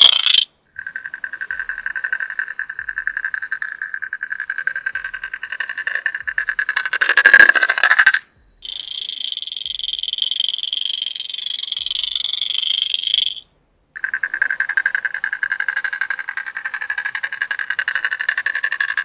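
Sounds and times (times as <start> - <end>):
fishing lure rattling underwater: 0.0 - 13.4, 14.0 - 19.0.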